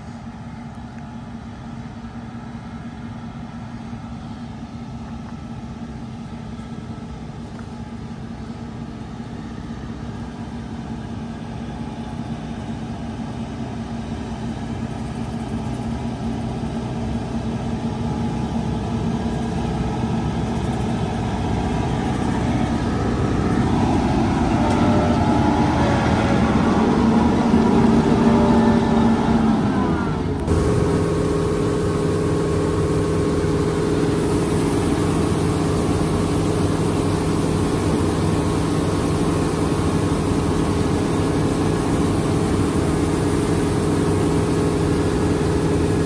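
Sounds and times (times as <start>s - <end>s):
combine harvester engine running: 0.0s - 46.0s.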